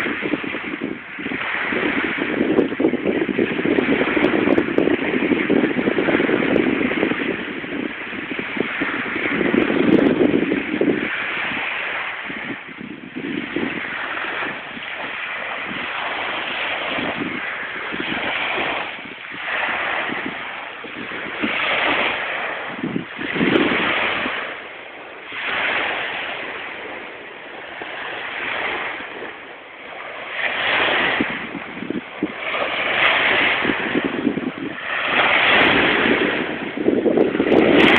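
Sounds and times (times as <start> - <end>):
waves washing onto beach: 0.0 - 37.9
wind buffeting microphone: 0.0 - 37.9.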